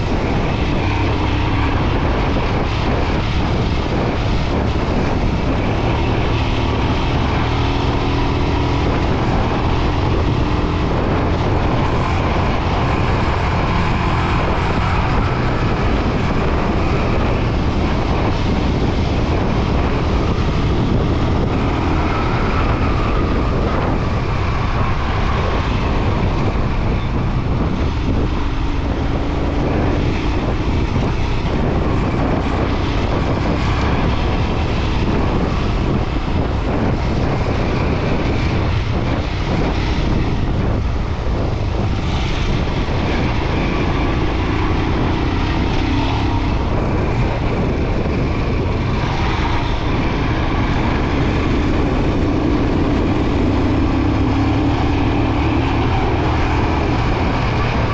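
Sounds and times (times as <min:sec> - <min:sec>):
loud rushing noise: 0:00.0 - 0:57.9.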